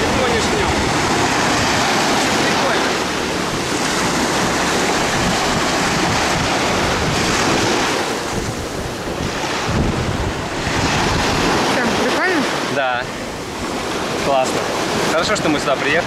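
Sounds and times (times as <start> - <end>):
sea surf breaking: 0.0 - 16.0
wind buffeting the microphone: 0.0 - 16.0.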